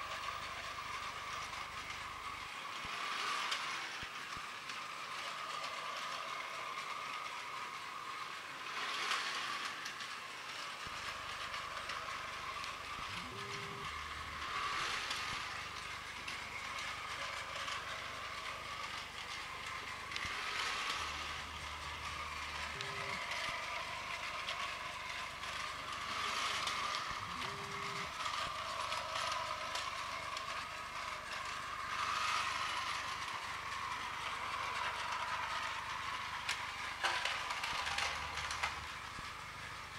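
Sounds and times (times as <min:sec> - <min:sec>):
toy train gearbox whine: 0:00.0 - 0:39.9.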